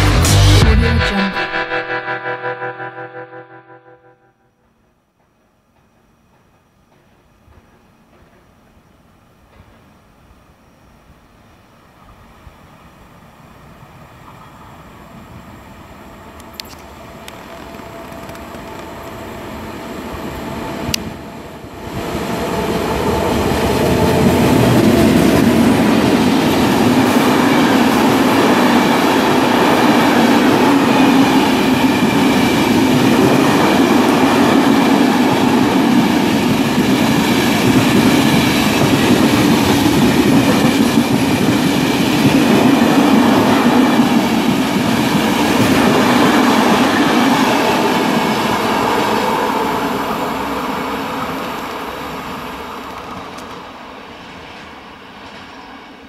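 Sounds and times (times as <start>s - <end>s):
train wheels rumbling on rail: 4.6s - 11.1s, 11.8s - 56.0s.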